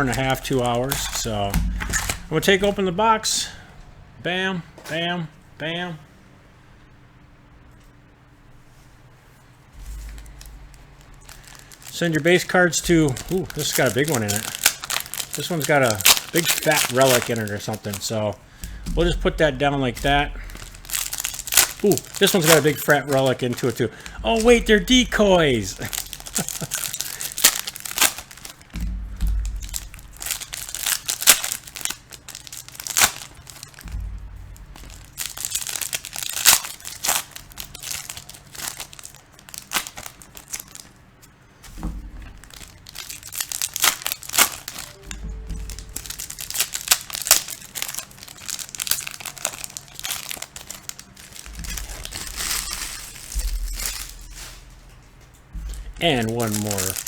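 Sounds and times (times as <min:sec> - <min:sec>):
foil wrappers crinkling and tearing: 0:00.0 - 0:03.6, 0:09.8 - 0:57.0.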